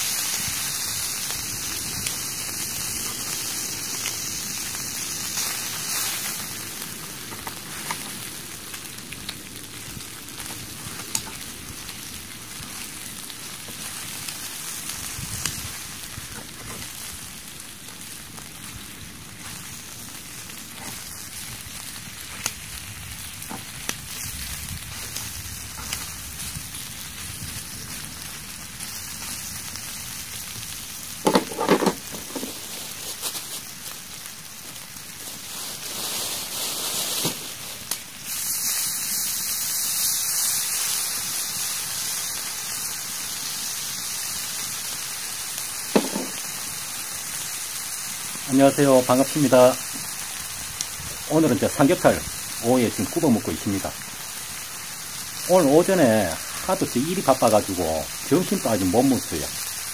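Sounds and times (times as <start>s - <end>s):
meat sizzling with pops: 0.0s - 59.9s.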